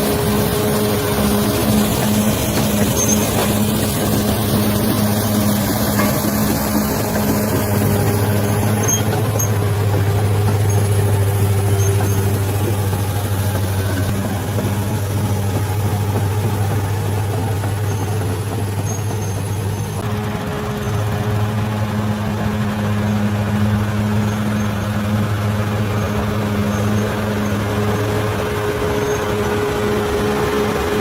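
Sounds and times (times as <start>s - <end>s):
bulldozer diesel engine humming: 0.0s - 31.0s.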